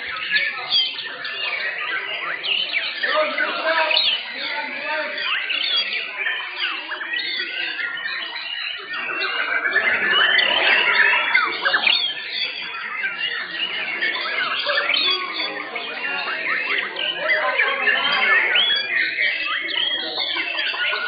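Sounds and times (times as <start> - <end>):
birds singing whistled phrases: 0.0 - 21.0.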